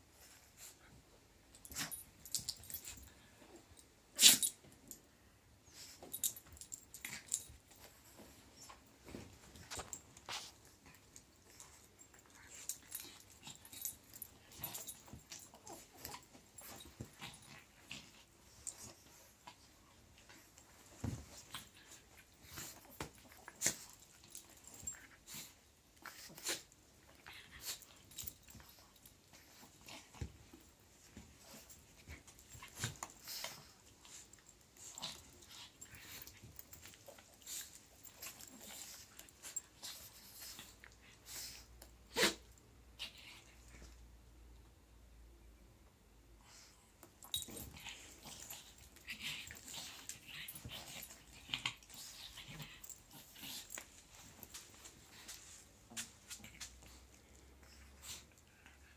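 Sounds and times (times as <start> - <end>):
breathy dog noises: 5.7 - 43.7, 46.4 - 58.9.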